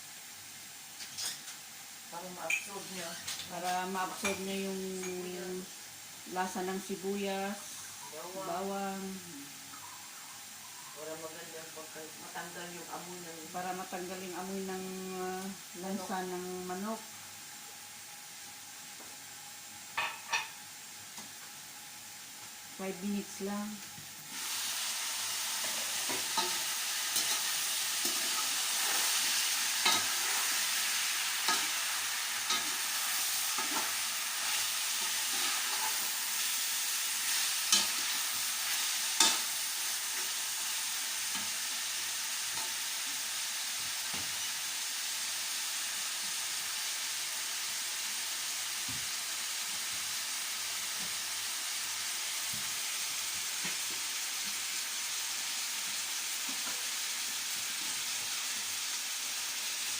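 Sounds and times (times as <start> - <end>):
chicken sizzling in oil: 0.0 - 59.9.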